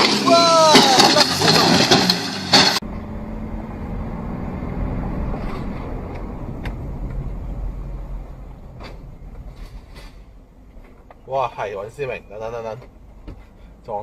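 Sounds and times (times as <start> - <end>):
car driving rumble: 0.0 - 14.0.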